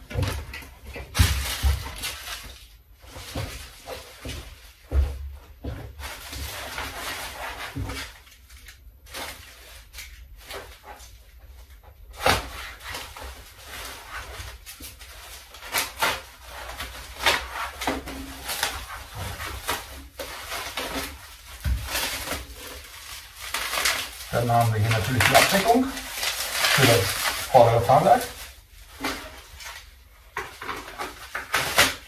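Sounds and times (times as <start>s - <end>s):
packaging rustling: 0.1s - 32.0s.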